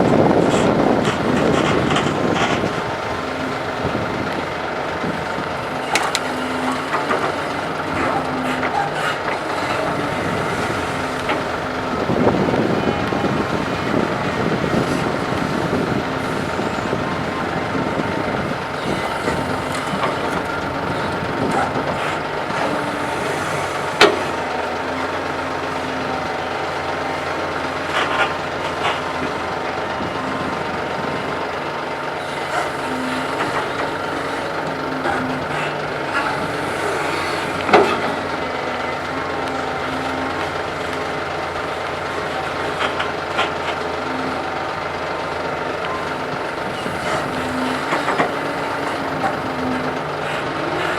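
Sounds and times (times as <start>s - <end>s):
diesel engines running: 0.0s - 50.9s.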